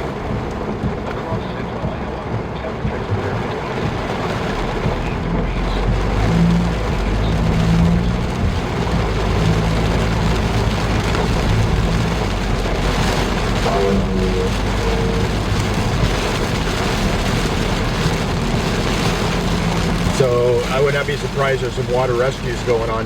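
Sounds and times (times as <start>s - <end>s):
low engine hum: 0.0s - 23.0s
road and tyre noise: 0.0s - 23.0s.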